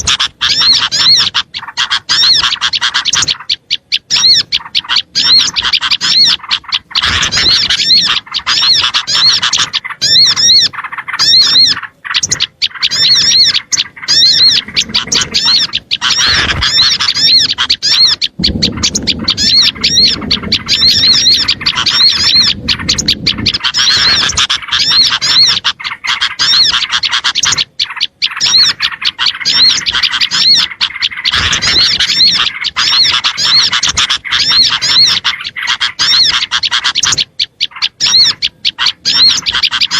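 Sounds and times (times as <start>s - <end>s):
songbirds chirping chorus: 0.0s - 39.9s.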